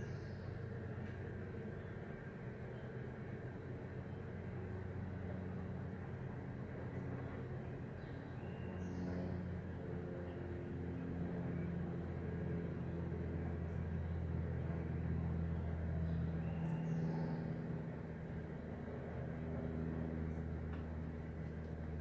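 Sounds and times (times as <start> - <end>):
distant diesel locomotive drone: 0.0 - 22.0.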